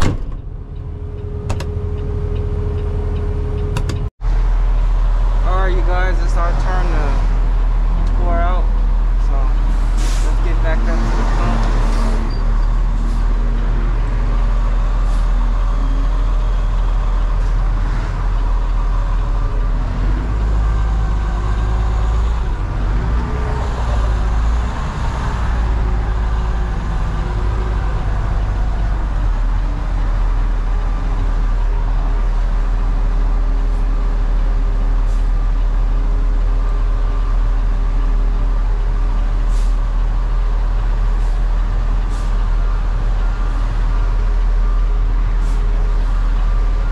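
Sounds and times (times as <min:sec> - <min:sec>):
road noise: 0:00.0 - 0:46.9
truck diesel engine drone: 0:00.0 - 0:46.9.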